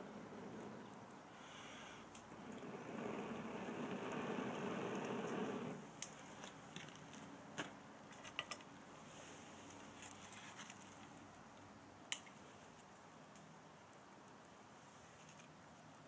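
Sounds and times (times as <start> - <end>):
kindling fire crackling: 0.0 - 16.0.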